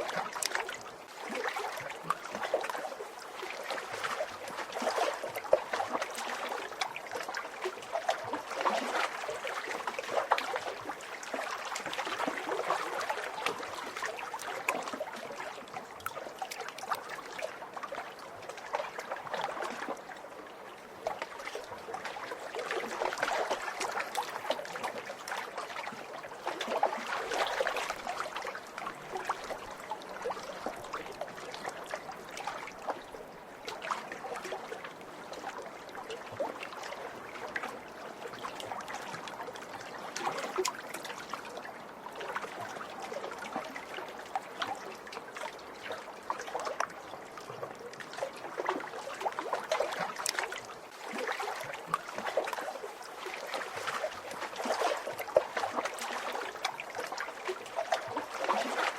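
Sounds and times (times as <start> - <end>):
lake waves lapping: 0.0 - 58.9.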